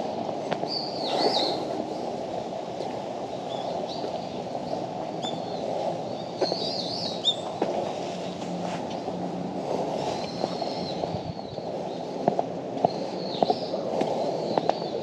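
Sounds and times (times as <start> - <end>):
outdoor background noise: 0.0 - 15.0
small birds chirping: 0.5 - 2.1, 2.8 - 15.0.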